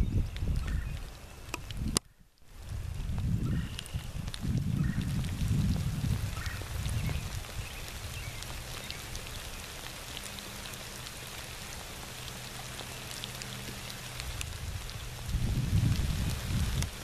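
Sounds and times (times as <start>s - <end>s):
rain falling steadily: 0.0s - 17.0s
raindrop ticks: 0.0s - 17.0s.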